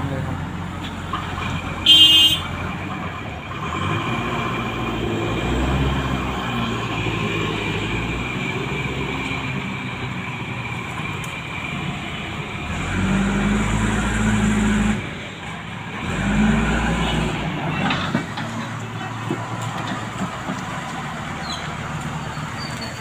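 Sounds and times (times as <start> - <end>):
diesel engine digging under load: 0.0 - 23.0.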